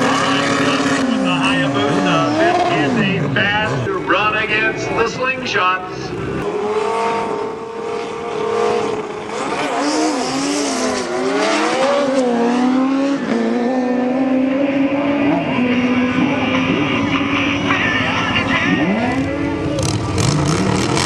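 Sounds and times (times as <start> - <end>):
drag racing engines: 0.0 - 21.0.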